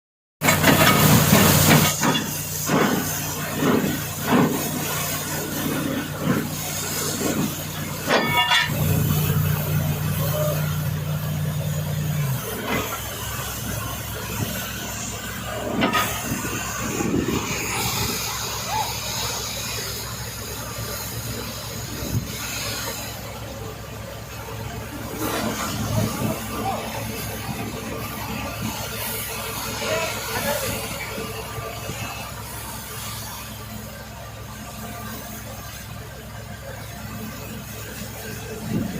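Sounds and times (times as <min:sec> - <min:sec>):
flowing water hiss: 0:00.4 - 0:38.9
low engine-like hum: 0:00.4 - 0:38.9.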